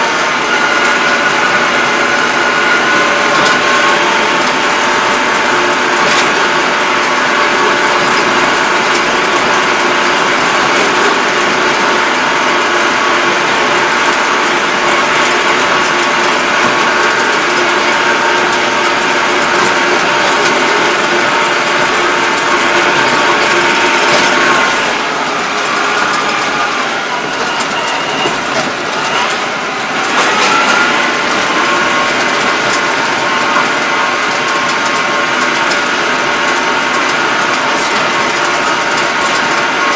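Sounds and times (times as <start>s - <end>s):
steady whining tones: 0.0s - 39.9s
tractor diesel engine running: 0.0s - 39.9s.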